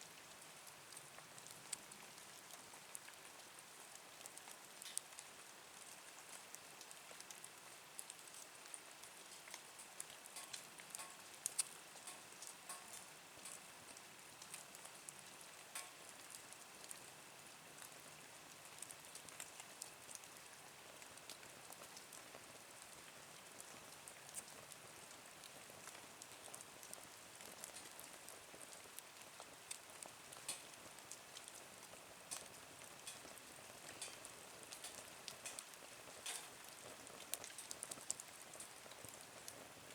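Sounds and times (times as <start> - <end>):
wood fire crackling and popping: 0.2 - 5.9, 6.5 - 39.9.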